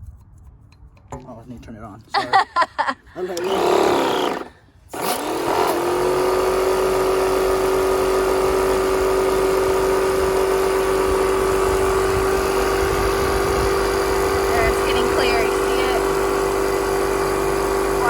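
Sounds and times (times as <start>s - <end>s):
paint sprayer pump humming: 3.1s - 18.0s.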